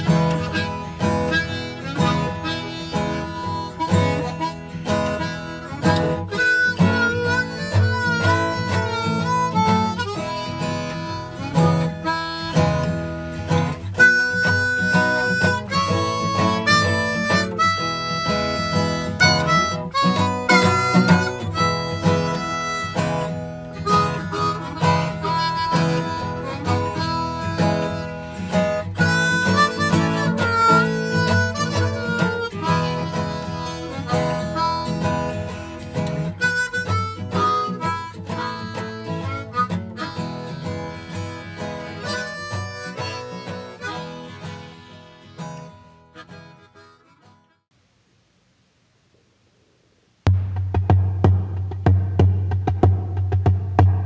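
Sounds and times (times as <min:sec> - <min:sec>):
blues harmonica melody: 0:00.0 - 0:47.7
guitar accompaniment: 0:00.0 - 0:47.7, 0:50.3 - 0:54.0.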